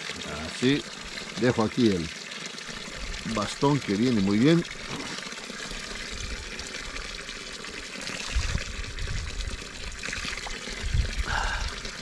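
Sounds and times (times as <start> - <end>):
water trickling from pipe: 0.0 - 12.0.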